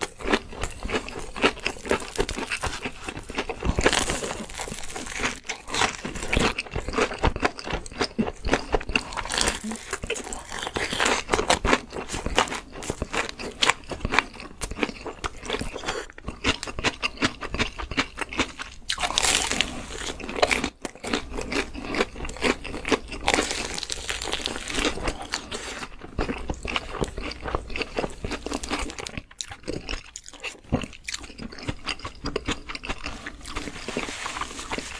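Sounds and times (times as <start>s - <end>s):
crunchy food chewing: 0.0s - 34.9s.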